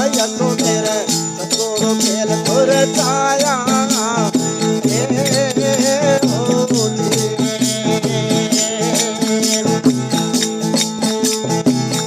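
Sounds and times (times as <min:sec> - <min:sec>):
percussion steady beat: 0:00.0 - 0:12.0.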